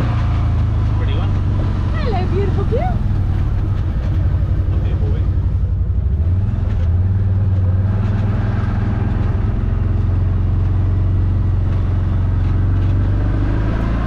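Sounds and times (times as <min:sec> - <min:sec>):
buggy engine running: 0:00.0 - 0:14.0.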